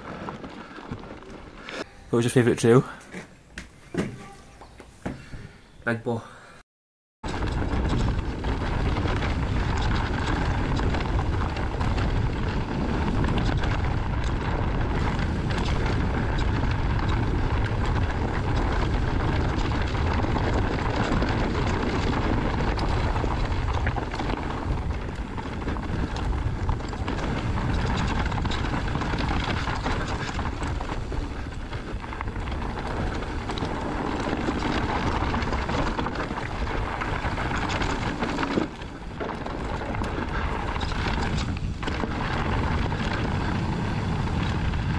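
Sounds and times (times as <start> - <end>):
tyres rolling over rocky trail: 0.0 - 4.2, 7.2 - 44.9
wind buffeting microphone: 7.2 - 44.9.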